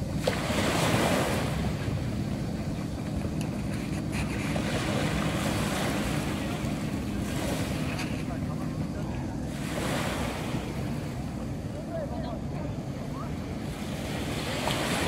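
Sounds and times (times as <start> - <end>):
small waves breaking on sand: 0.0 - 15.0
wind buffeting microphone: 0.0 - 15.0.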